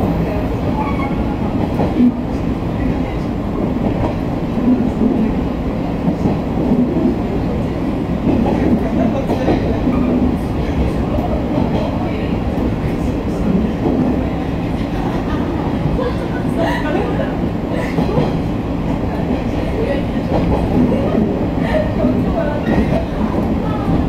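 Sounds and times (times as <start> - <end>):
train running noise from inside: 0.0 - 24.0.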